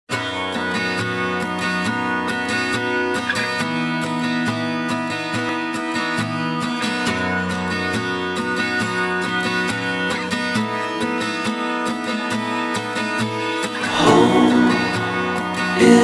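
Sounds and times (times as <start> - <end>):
strummed acoustic guitar: 0.1 - 16.0.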